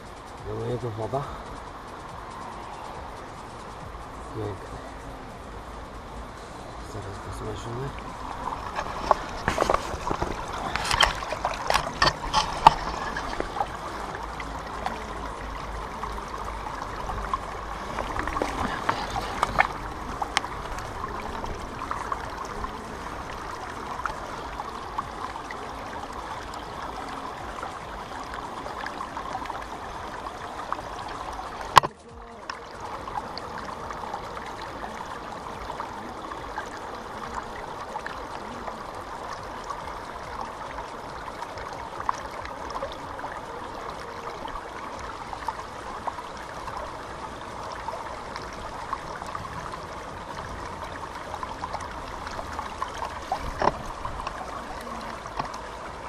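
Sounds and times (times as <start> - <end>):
river water over stones: 0.0 - 56.0.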